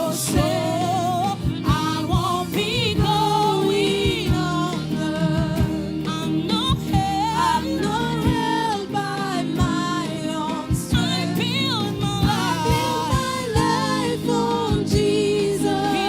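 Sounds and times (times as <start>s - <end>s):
drum beat: 0.0s - 8.8s, 10.7s - 16.0s
gospel choir singing: 0.0s - 16.0s
keyboard chords: 0.0s - 16.0s.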